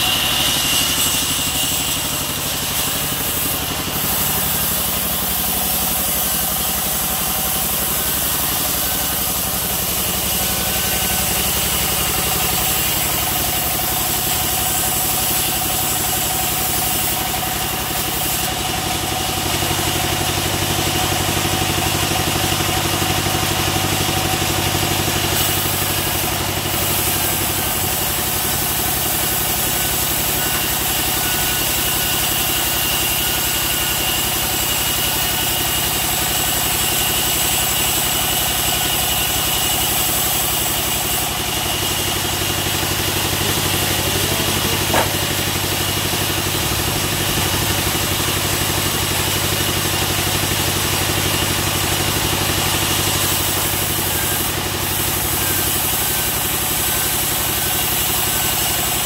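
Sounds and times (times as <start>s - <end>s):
band sawmill droning with whine: 0.0s - 59.0s.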